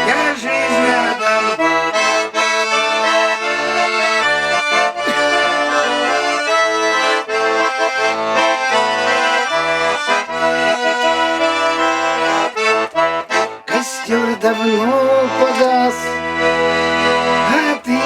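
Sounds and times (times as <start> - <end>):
accordion bass notes pumping: 0.0 - 18.0
button accordion melody: 0.0 - 18.0.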